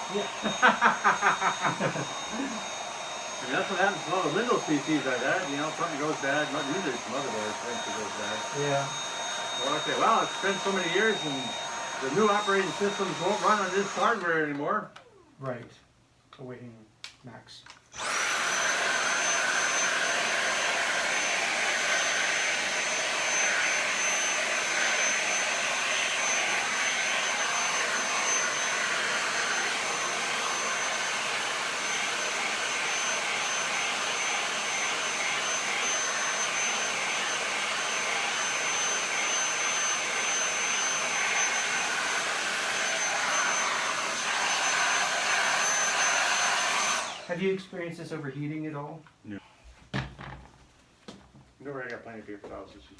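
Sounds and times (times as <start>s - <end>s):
small vacuum cleaner whining: 0.0s - 15.2s, 17.9s - 47.4s.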